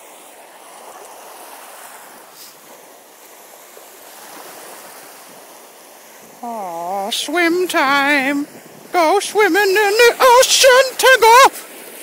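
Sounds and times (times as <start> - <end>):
small waves washing onto shore: 0.0 - 12.0.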